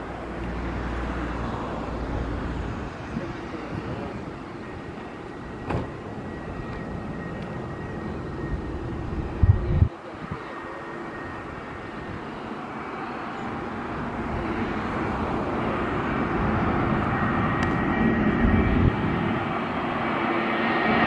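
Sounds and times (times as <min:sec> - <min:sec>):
jet engines rumbling with high whine: 0:00.0 - 0:21.0.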